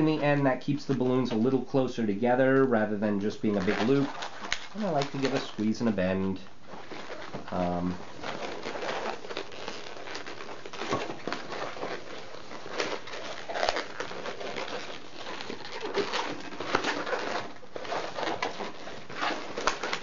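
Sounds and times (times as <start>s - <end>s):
balloon squeaking and rubbing: 0.0s - 20.0s.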